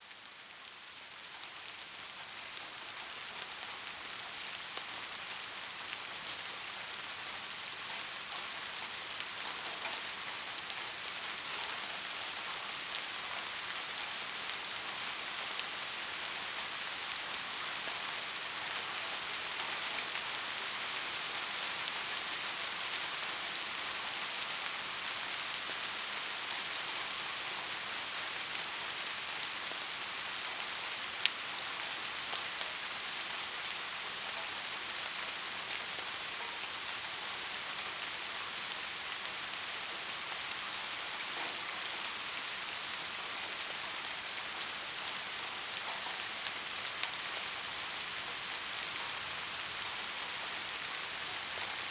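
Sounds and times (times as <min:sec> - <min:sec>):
soft rain falling: 0:00.0 - 0:51.9.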